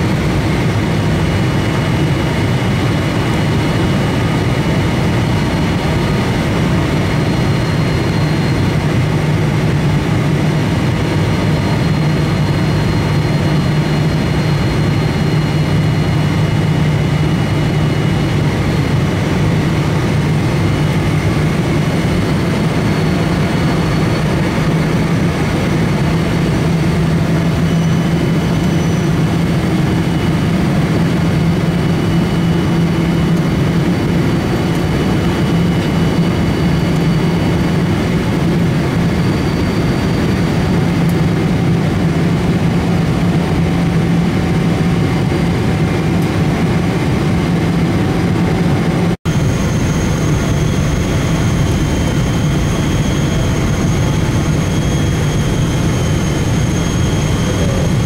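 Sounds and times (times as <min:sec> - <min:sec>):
jet engines droning: 0:00.0 - 0:58.0
low hum: 0:00.0 - 0:58.0.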